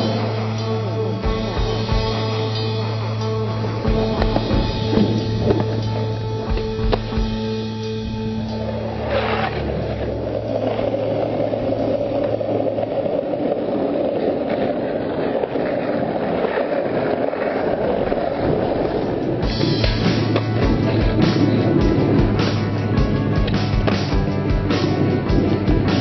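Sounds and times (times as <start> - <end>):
background music: 0.0 - 13.4, 18.2 - 26.0
skateboard wheels on rough pavement: 0.0 - 26.0.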